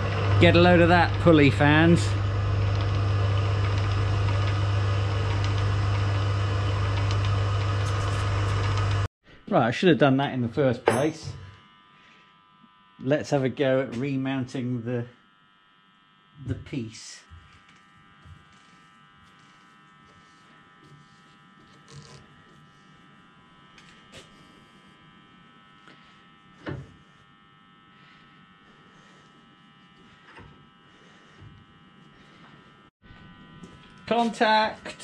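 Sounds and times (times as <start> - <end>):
electric motor whine: 0.0 - 9.1, 11.2 - 35.0.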